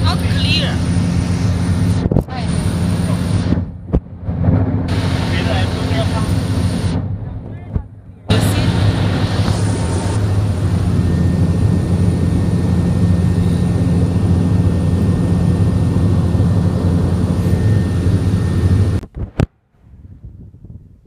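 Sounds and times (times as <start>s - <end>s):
propeller engine drone: 0.0s - 19.4s.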